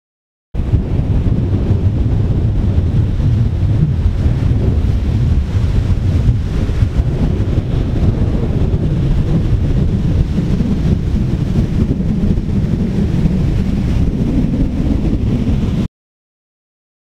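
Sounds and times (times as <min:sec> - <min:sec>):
surf breaking on beach: 0:00.6 - 0:15.9
wind buffeting microphone: 0:00.6 - 0:15.9.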